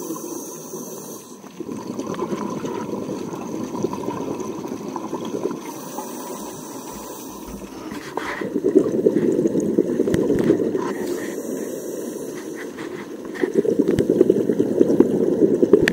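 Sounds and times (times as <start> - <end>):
underwater regulator bubbling: 1.1 - 15.9.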